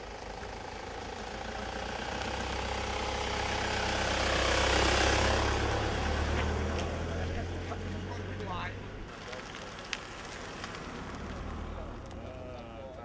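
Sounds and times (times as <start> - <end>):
low engine hum: 0.0 - 13.0
vehicle driving past: 0.9 - 13.0.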